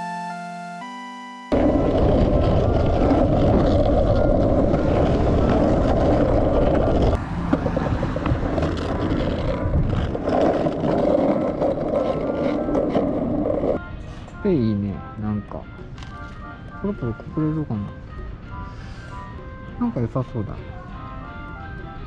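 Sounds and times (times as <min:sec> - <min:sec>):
road traffic rumble: 0:01.5 - 0:22.0.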